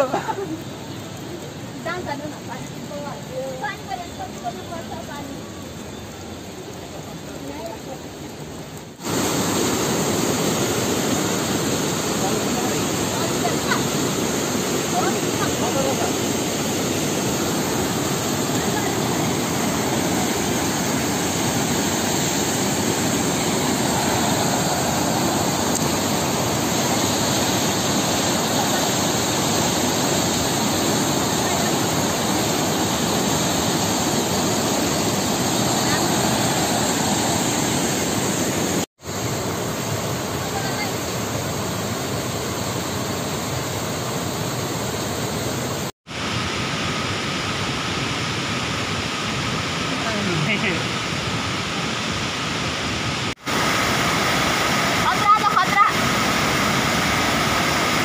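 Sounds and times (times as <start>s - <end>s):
stream rushing over boulders: 0.0s - 58.0s.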